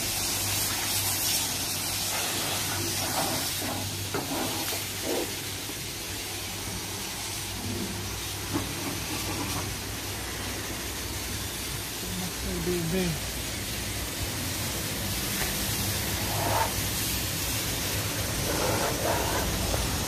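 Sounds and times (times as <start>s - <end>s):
high-pressure water spray hiss: 0.0s - 20.0s.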